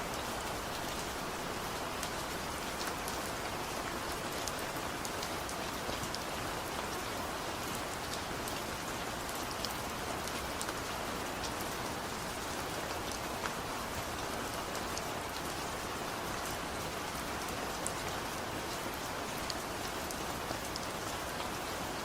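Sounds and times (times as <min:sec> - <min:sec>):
gentle rain falling: 0:00.0 - 0:22.0.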